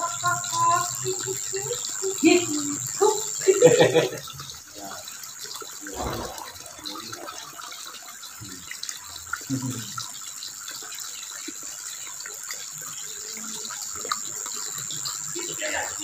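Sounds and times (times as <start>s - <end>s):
running water hiss: 0.0s - 16.0s.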